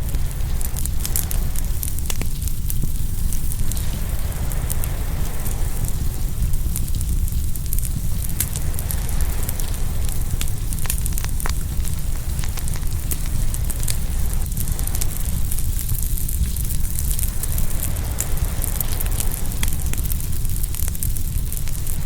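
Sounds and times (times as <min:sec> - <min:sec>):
low rumble: 0:00.0 - 0:22.0
wood fire crackling and popping: 0:00.0 - 0:22.0.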